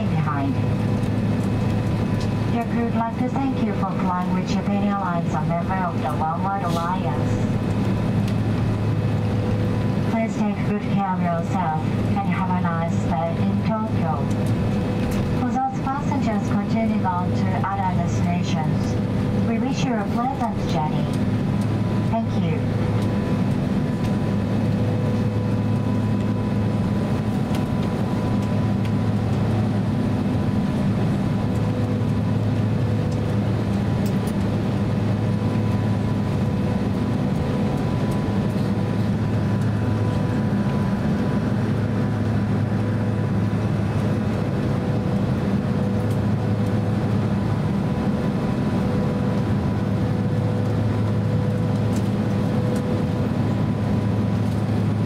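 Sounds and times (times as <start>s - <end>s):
aircraft cabin low drone: 0.0s - 55.0s.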